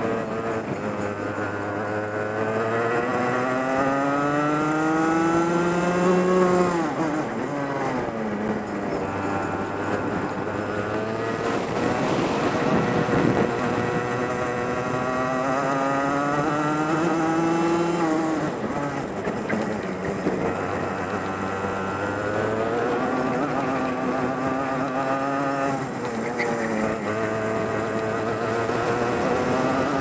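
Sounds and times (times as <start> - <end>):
racing kart engine: 0.0 - 30.0.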